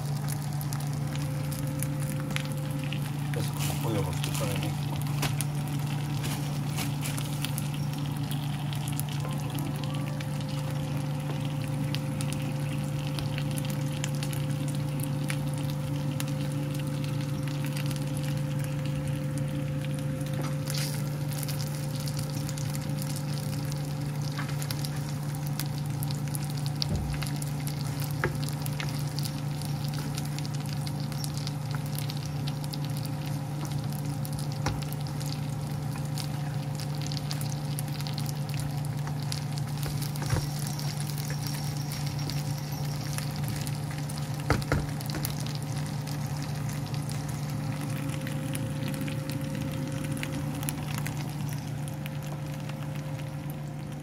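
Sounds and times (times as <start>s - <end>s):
chicken sizzling in a pan: 0.0s - 54.0s
low hum: 0.0s - 54.0s.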